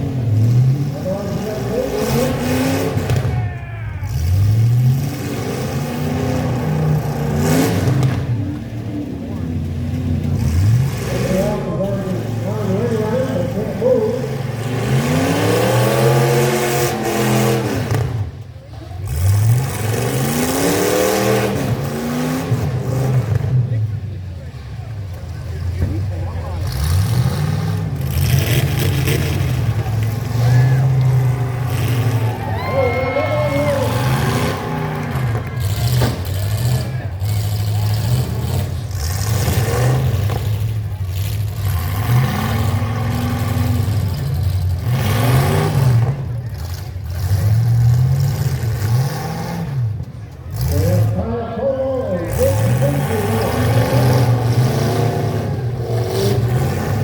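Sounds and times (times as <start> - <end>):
truck engines revving hard: 0.0 - 57.0.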